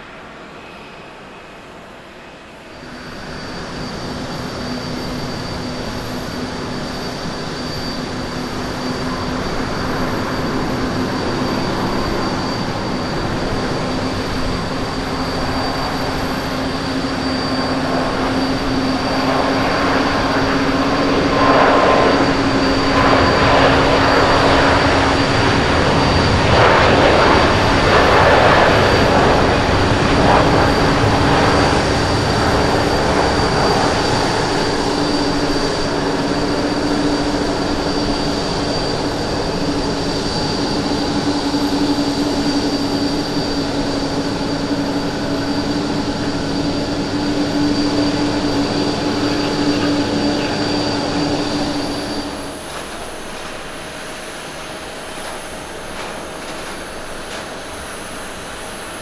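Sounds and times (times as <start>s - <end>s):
jet engine high whine: 0.0s - 59.0s
jet engines roaring at takeoff: 0.0s - 59.0s.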